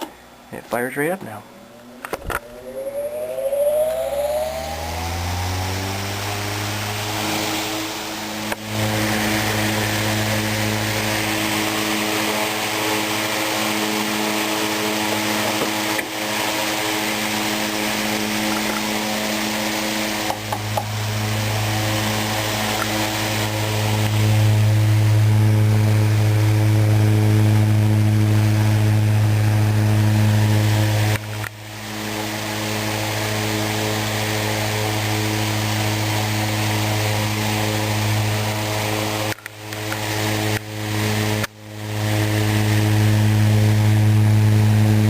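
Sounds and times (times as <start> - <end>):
electric fan motor humming: 0.0 - 45.0
rush of air from fan blades: 1.5 - 45.0.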